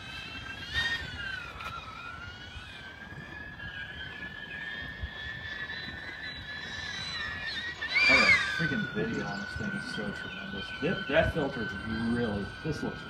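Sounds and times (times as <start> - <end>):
drone propellers whining: 0.0 - 13.0
wind rumble on microphone: 0.0 - 13.0.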